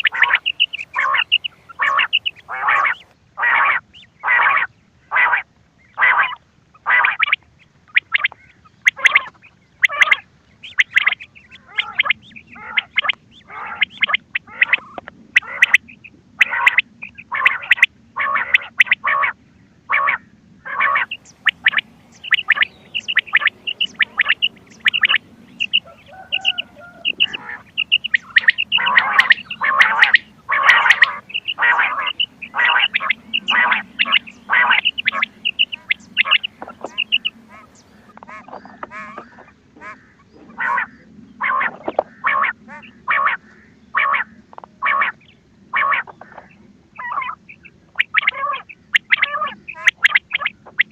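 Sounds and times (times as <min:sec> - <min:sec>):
recorded quail calls: 0:00.0 - 0:50.9.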